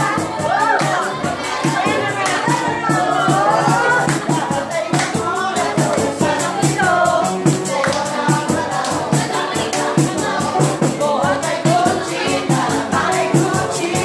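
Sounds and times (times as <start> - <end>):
dance music with singing: 0.0 - 14.0.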